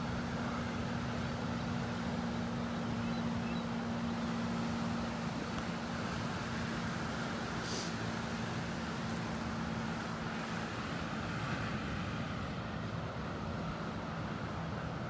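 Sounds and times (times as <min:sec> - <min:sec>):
low engine hum: 0:00.0 - 0:15.0
outdoor background noise: 0:00.0 - 0:15.0.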